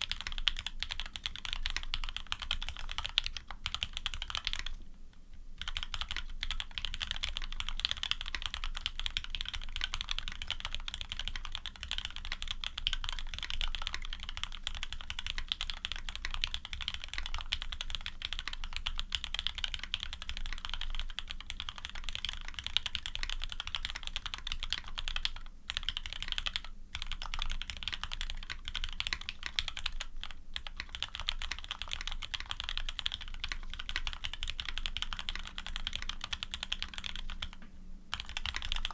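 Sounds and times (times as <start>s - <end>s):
fast typing on mechanical keyboard: 0.0s - 4.8s, 5.6s - 38.9s.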